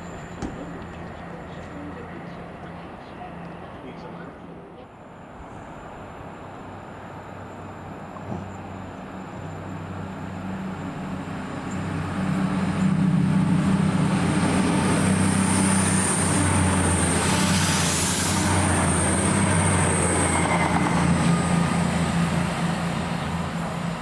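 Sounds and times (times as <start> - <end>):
diesel train engine drone: 0.0 - 24.0.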